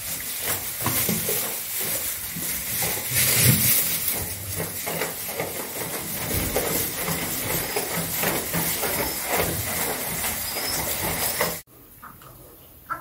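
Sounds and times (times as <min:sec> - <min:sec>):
scuffling and rustling: 0:00.0 - 0:11.7.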